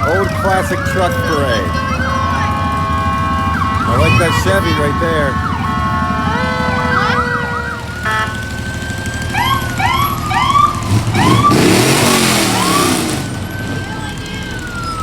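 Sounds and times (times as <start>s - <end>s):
fire truck sirens wailing: 0.0s - 15.0s
low engine rumble: 0.0s - 15.0s
siren yelps: 0.0s - 15.0s.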